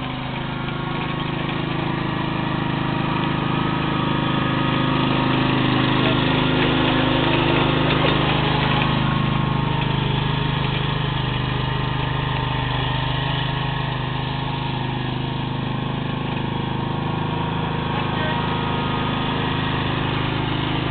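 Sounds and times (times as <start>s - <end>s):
lawn mower engine running: 0.0s - 20.9s.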